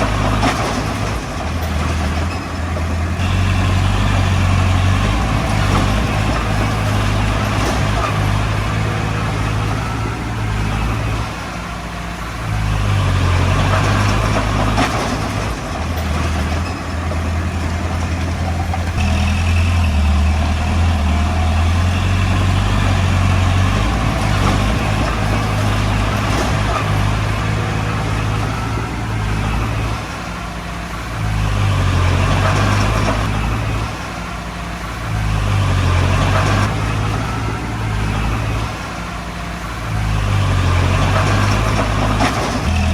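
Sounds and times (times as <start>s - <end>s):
bulldozer diesel engine under load: 0.0s - 42.9s.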